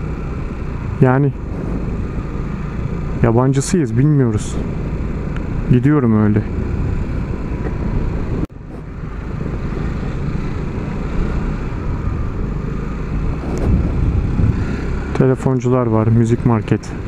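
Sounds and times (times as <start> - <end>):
scooter engine and road noise: 0.0 - 17.0.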